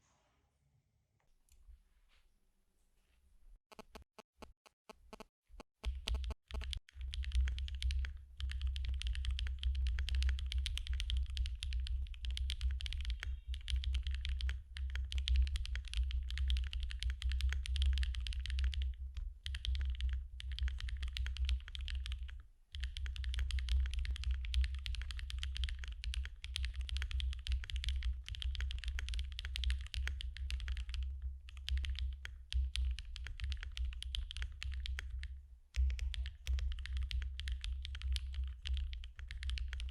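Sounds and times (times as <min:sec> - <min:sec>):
fast mechanical keyboard typing: 0:05.8 - 0:39.9.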